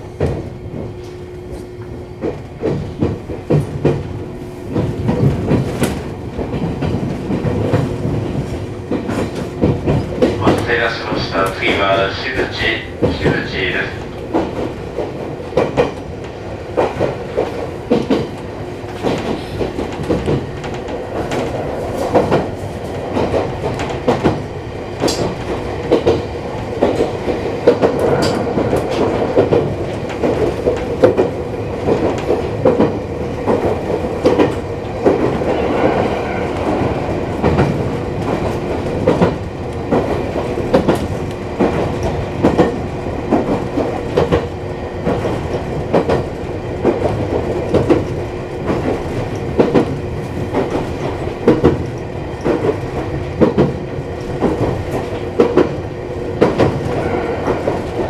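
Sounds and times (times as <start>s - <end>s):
electric train running hum: 0.0s - 58.0s.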